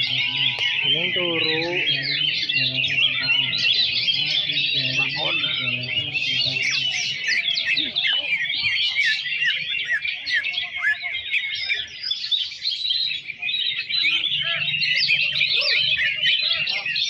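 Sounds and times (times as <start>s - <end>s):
chorus of birds chirping and whistling: 0.0s - 17.0s.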